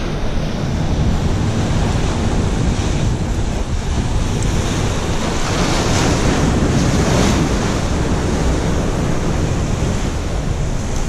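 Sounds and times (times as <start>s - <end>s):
ocean surf washing: 0.0s - 11.0s
wind buffeting microphone: 0.0s - 11.0s.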